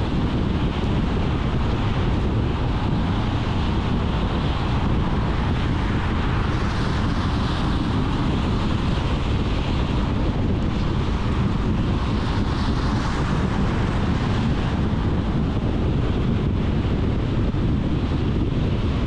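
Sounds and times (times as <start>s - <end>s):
car road and wind noise: 0.0s - 19.0s.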